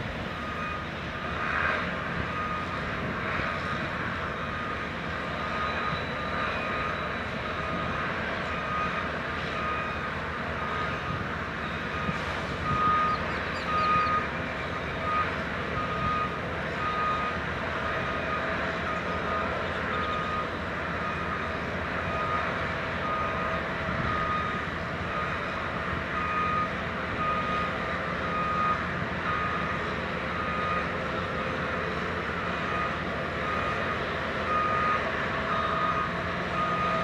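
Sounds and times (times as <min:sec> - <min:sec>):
heavy machinery engine running: 0:00.0 - 0:37.0.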